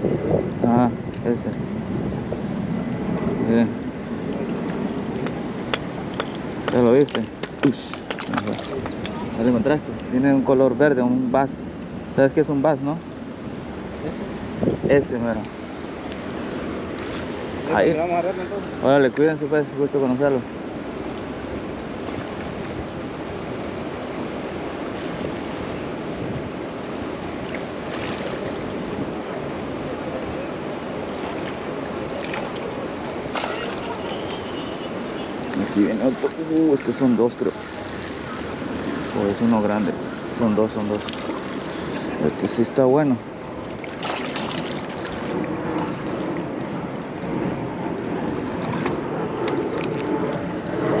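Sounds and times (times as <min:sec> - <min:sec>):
wind on microphone: 0:00.0 - 0:10.2, 0:13.0 - 0:18.9, 0:20.5 - 0:51.0
river current rushing: 0:01.2 - 0:51.0.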